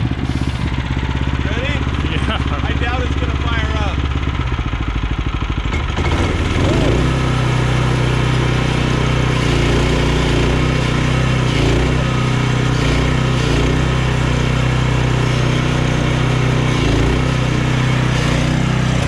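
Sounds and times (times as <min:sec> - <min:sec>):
sawmill engine running steadily: 0:00.0 - 0:19.0.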